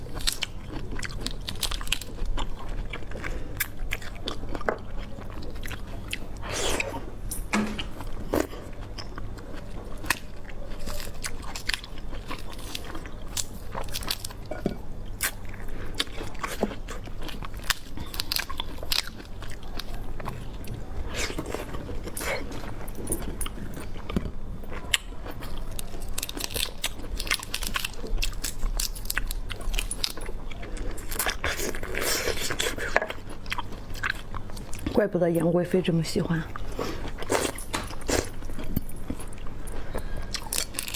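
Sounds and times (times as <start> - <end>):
person chewing crunchy food: 0.0 - 35.0, 36.5 - 40.9.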